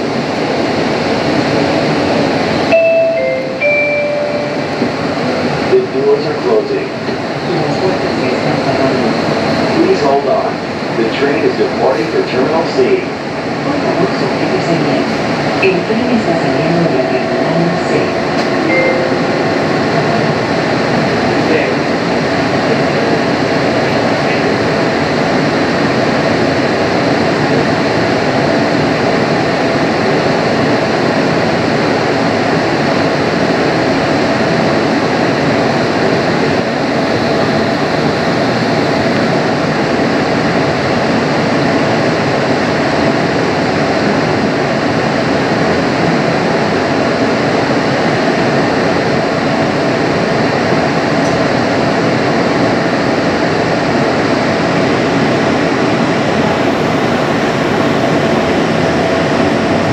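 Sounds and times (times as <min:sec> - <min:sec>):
faint steady whine: 0:00.0 - 0:59.9
people-mover car rumble and hiss: 0:00.0 - 0:59.9.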